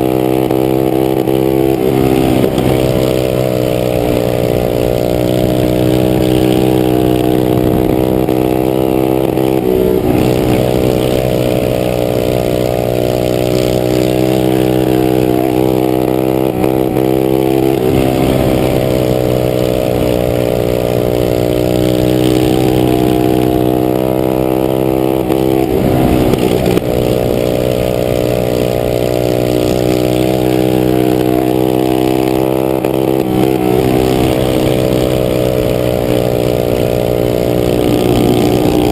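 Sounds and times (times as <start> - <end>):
minibike engines racing: 0.0 - 38.9.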